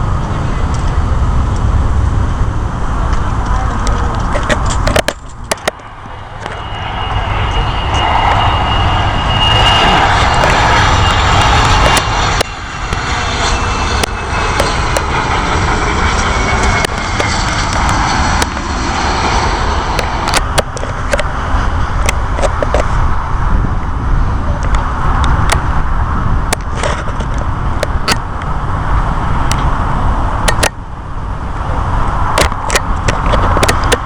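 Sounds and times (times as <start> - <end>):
jet engine rumble and hiss: 0.0 - 34.0
wind buffeting microphone: 0.0 - 34.0.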